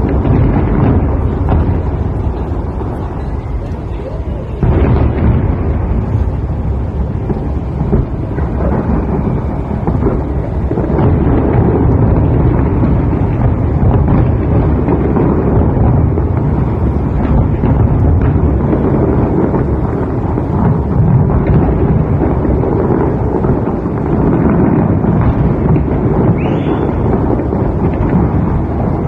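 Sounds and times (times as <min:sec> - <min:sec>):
fireworks booms and bangs: 0:00.0 - 0:29.0.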